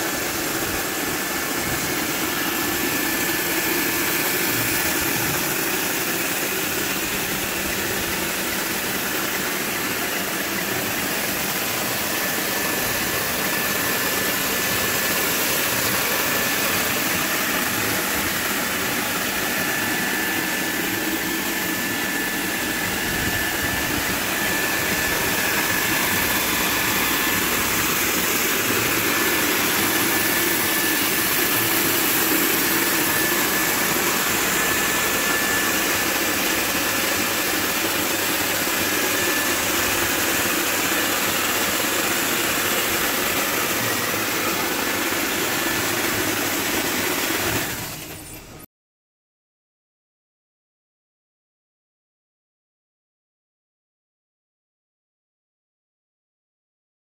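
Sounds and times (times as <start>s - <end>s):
pump running: 0.0s - 48.6s.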